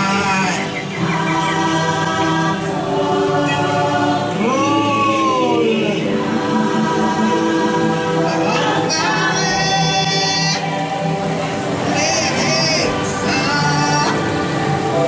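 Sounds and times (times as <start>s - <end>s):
choir singing chant-like music: 0.0s - 15.0s.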